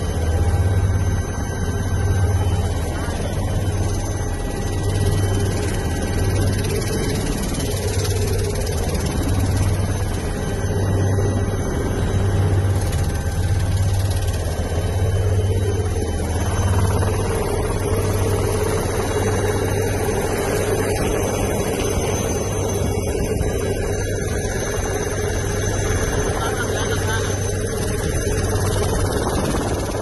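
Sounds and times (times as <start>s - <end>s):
helicopter cabin drone: 0.0s - 30.0s.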